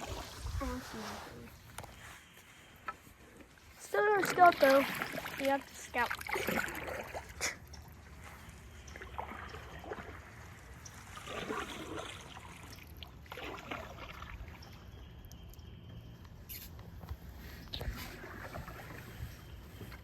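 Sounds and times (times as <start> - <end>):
paddle swishing in water: 0.0 - 14.8, 17.2 - 20.0
water trickling off paddle: 0.0 - 15.9, 17.6 - 20.0.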